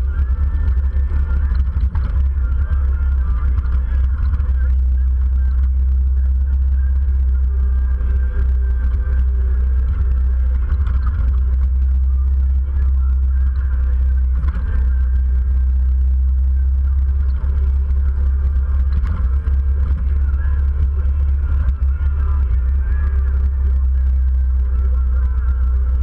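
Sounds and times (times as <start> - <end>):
motorcycle engine rumble: 0.0 - 26.0.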